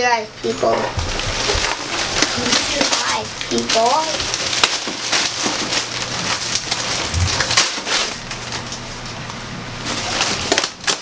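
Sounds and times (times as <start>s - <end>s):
packing paper rustling: 0.9s - 11.0s.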